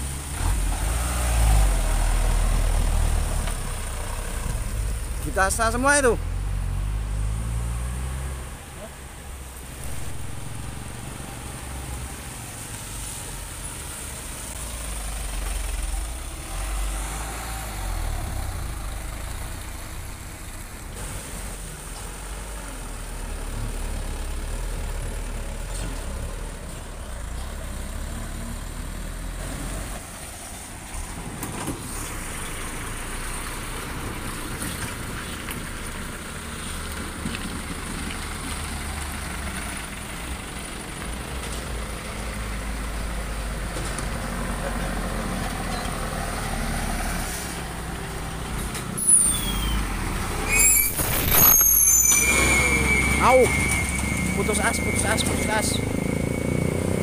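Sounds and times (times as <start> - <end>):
diesel trucks driving uphill: 0.0 - 57.0.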